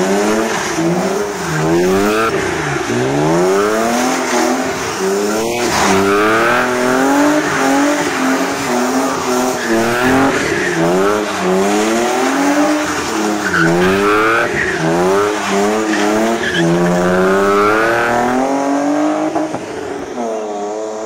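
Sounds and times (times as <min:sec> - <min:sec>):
tyres sliding on wet tarmac: 0:00.0 - 0:18.5, 0:19.2 - 0:20.4
car engine revving: 0:00.0 - 0:21.0.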